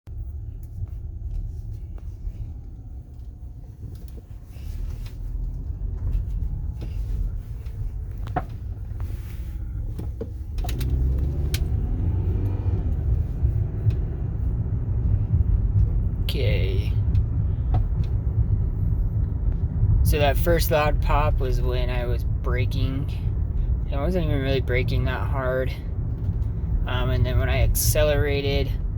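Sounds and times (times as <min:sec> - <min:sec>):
car cabin road noise: 0:00.1 - 0:28.9.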